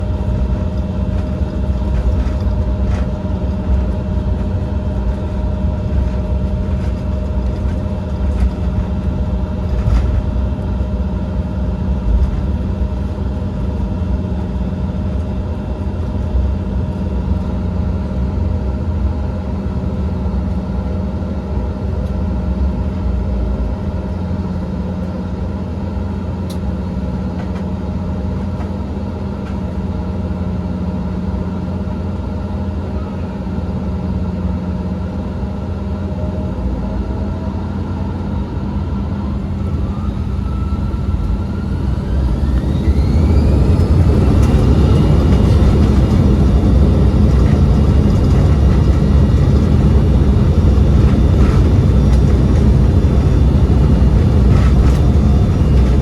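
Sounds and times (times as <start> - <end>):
jet engines idling: 0.0 - 56.0.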